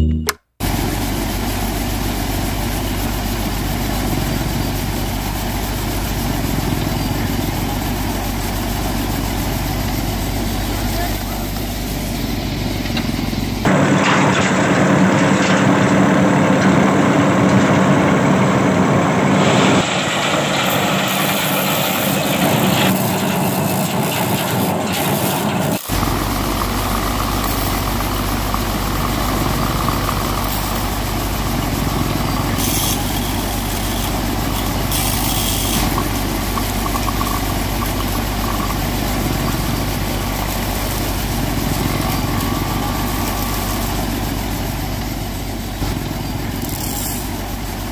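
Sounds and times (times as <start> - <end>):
thresher machine whirring: 0.6 - 47.9.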